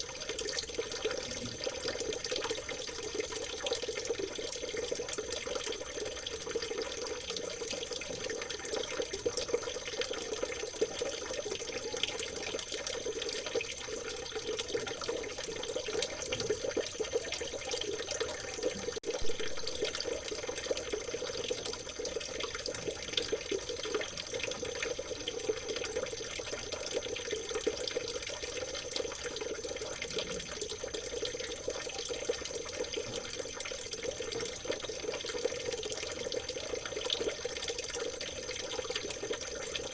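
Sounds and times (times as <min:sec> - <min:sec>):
water trickling in stream: 0:00.0 - 0:39.9.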